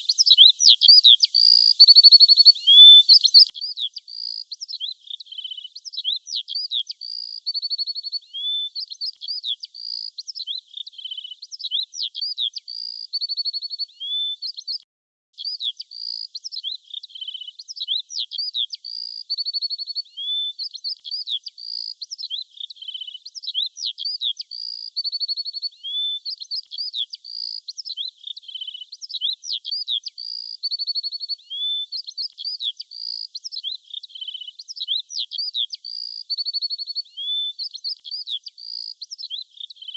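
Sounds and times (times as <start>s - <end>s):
birdsong with chirps and trills: 0.0s - 14.8s, 15.4s - 39.9s.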